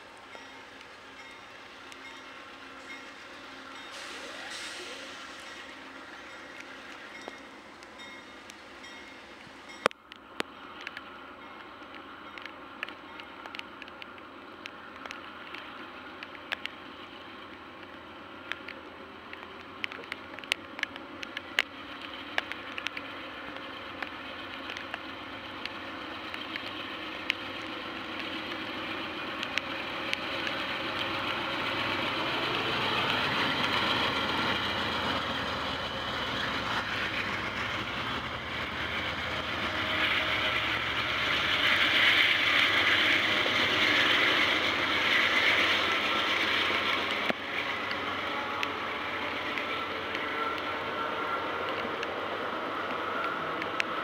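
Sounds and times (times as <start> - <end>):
diesel locomotive engines: 0.0 - 54.0
train wheels on rails: 0.0 - 54.0.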